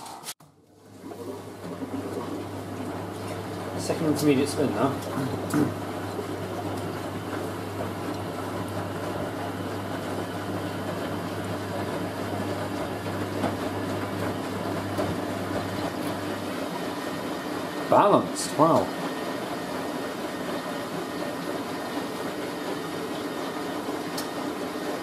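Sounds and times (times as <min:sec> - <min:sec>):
drain pump humming: 0:00.4 - 0:25.0
washing machine drum turning: 0:00.9 - 0:25.0.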